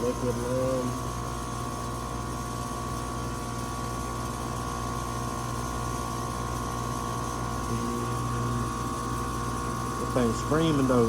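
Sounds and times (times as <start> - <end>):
compressor whining over low hum: 0.0 - 11.0.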